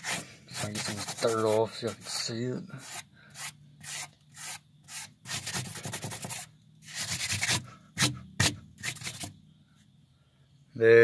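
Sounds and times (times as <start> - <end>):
hand scraping dirt off tire: 0.0 - 9.3.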